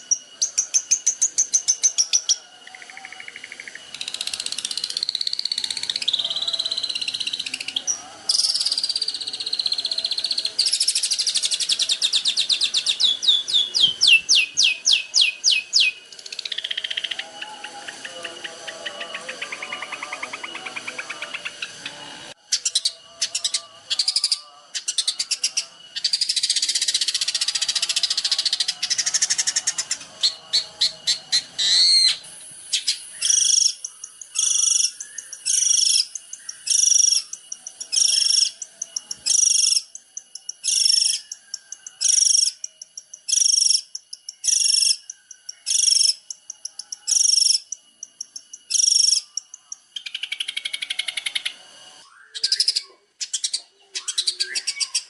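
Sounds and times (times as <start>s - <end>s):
bird chattering trill: 0.0s - 51.6s.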